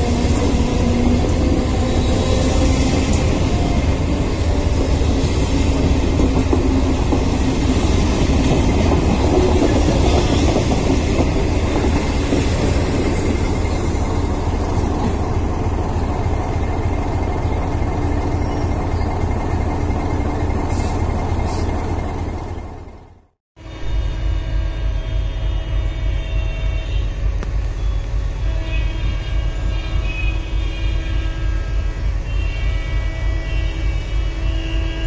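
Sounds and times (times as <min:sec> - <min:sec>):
passing train: 0:00.0 - 0:35.0
train wheels rumbling on track: 0:00.0 - 0:35.0.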